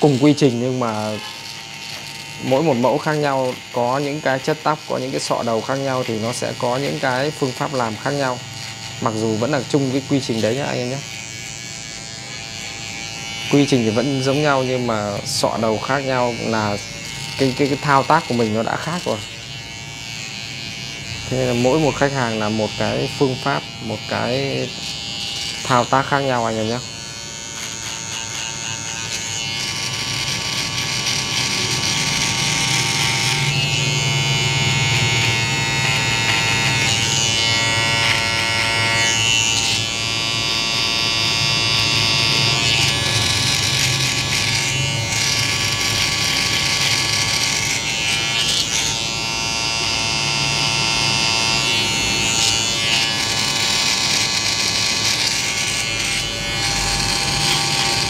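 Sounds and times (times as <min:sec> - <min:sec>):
electric hair clipper buzzing: 0:00.0 - 0:58.0.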